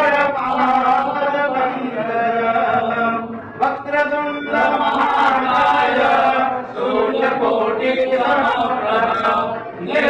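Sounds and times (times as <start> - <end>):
voices chanting prayer: 0.0 - 10.0.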